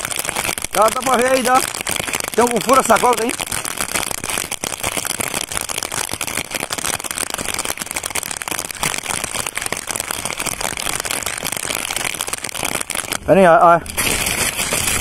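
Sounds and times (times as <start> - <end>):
plastic crinkling: 0.0 - 15.0
rain pattering on plastic: 0.0 - 15.0.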